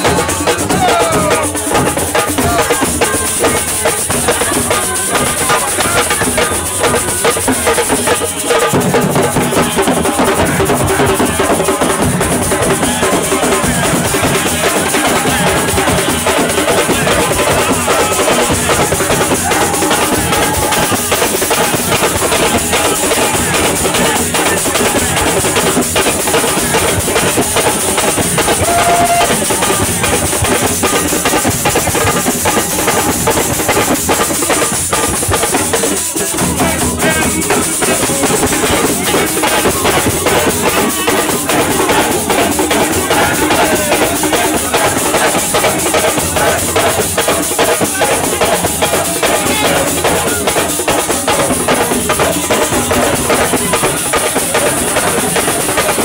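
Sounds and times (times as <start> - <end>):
music with dense drumming: 0.0 - 56.0.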